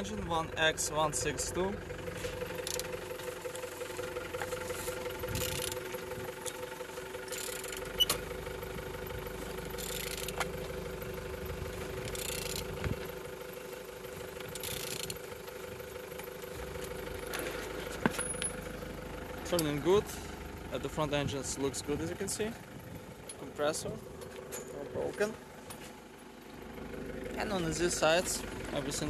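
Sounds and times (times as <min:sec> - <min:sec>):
engine turned by hand whirring: 0:00.0 - 0:29.0
low hum: 0:00.0 - 0:29.0.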